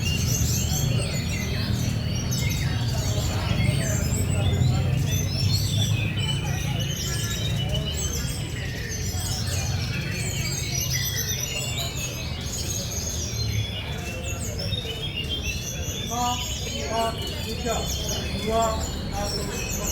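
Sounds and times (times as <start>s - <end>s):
songbirds chirping and trilling: 0.0s - 19.9s.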